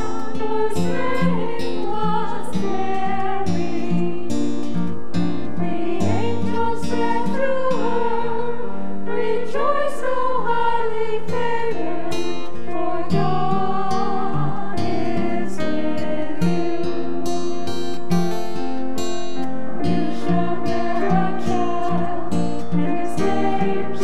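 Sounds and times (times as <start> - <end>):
acoustic guitar: 0.0 - 24.0
keyboard accompaniment: 0.0 - 24.0
sustained melody with vibrato: 0.0 - 24.0.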